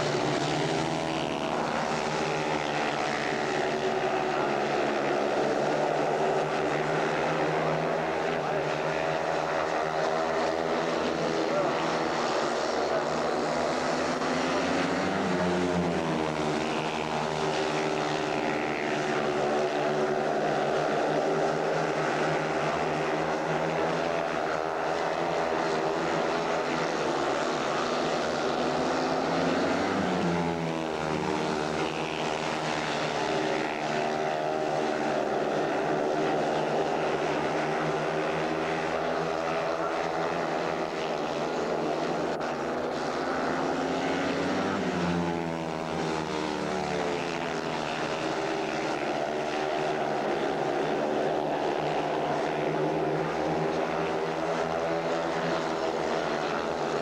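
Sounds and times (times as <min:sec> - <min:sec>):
motorbikes racing: 0:00.0 - 0:57.0.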